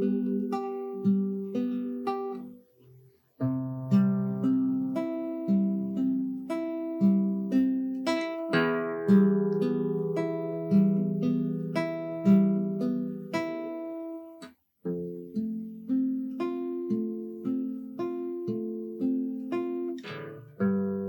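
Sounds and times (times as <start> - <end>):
acoustic guitar instrumental: 0.0 - 21.0.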